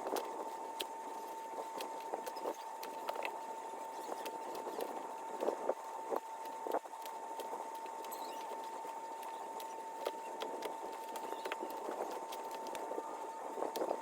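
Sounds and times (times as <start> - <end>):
steady high hum: 0.0 - 14.0.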